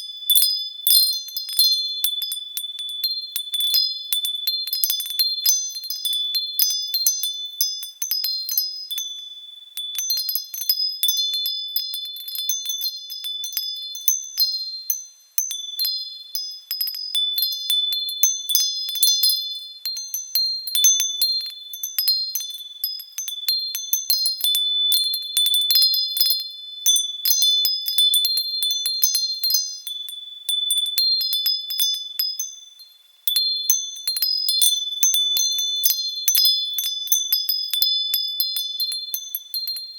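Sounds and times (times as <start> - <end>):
metal wind chimes tinkling: 0.0 - 39.9.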